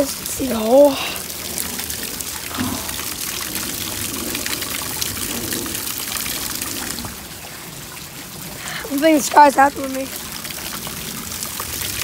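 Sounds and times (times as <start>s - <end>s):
heavy rain on grass and puddles: 0.0s - 12.0s
water trickling: 0.0s - 12.0s.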